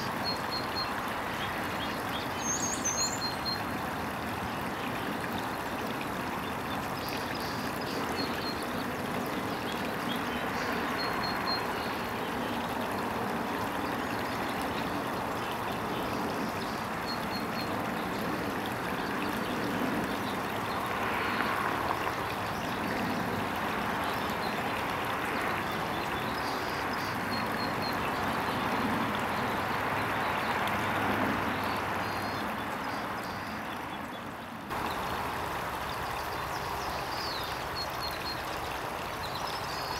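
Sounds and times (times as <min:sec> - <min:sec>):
rushing outdoor background noise: 0:00.0 - 0:39.9.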